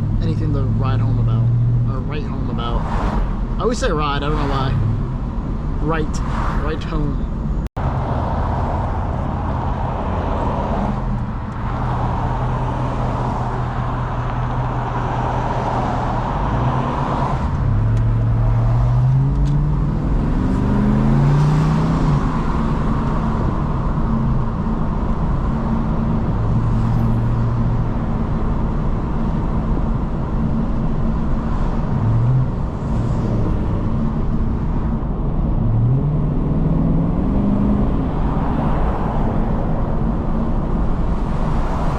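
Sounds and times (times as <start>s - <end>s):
road noise: 0.0s - 41.9s
car engine accelerating: 7.5s - 41.9s.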